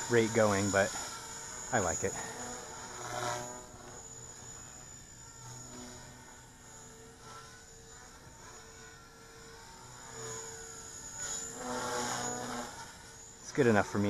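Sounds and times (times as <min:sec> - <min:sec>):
high whine: 0:00.0 - 0:14.0
rc helicopter rotor hum: 0:00.0 - 0:14.0.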